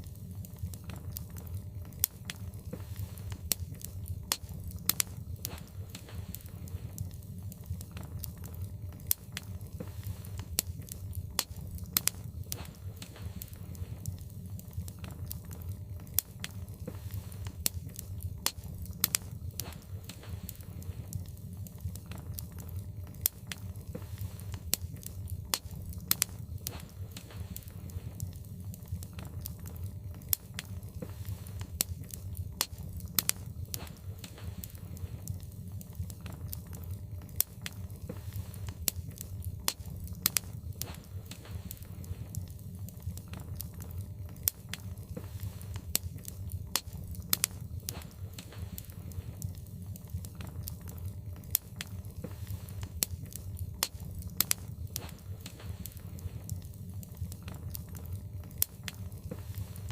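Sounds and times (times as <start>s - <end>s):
logs crackling and popping in fire: 0.0s - 59.9s
low rumble of fire: 0.0s - 59.9s.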